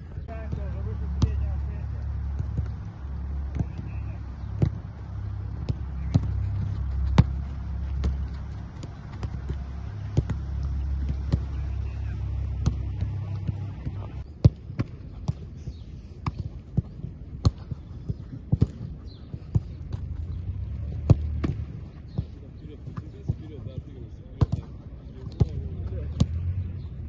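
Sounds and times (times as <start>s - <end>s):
footballs being kicked: 0.0s - 26.9s.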